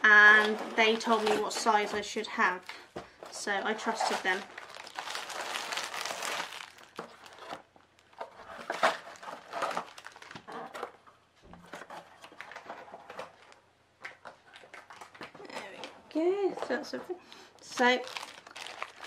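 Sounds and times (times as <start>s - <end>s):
plastic wrapping crinkling: 0.2s - 11.0s, 11.7s - 16.9s, 17.5s - 19.0s.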